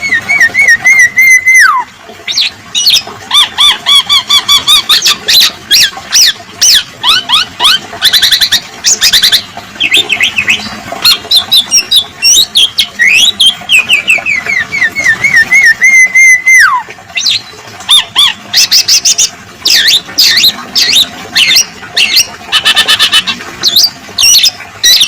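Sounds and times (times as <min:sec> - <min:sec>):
bird singing chirps and whistles: 0:00.0 - 0:25.0.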